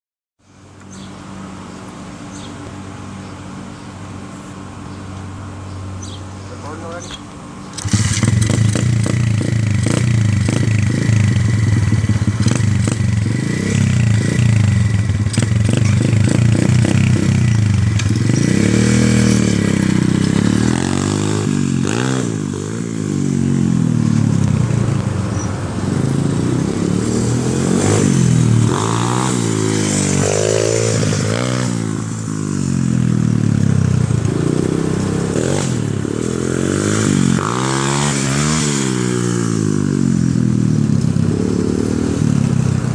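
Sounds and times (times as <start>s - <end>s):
motorbike engine revving: 7.7s - 42.9s.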